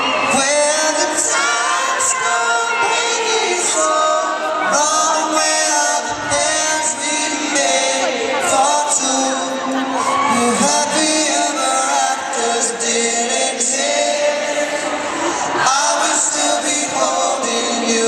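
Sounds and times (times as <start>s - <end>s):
arena crowd: 0.0s - 18.0s
men singing a cappella in harmony: 0.3s - 18.0s.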